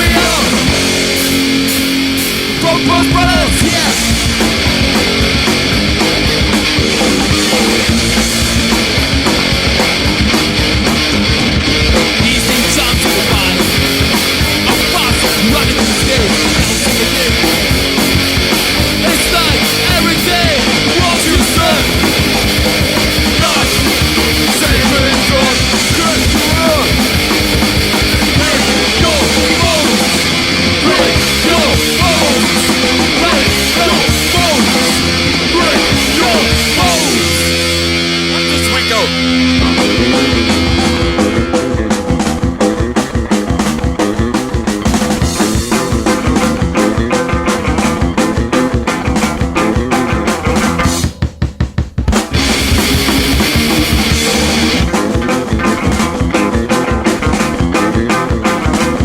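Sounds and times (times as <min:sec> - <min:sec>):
punk band playing: 0:00.0 - 0:59.0.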